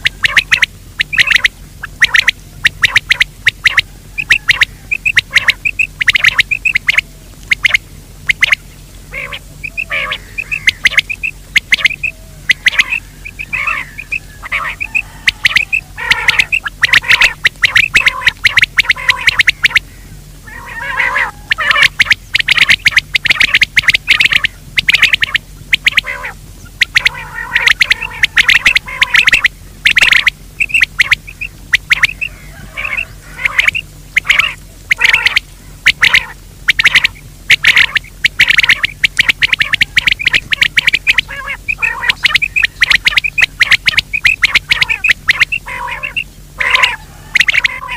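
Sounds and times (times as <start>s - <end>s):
game bird calling: 0.0s - 47.9s.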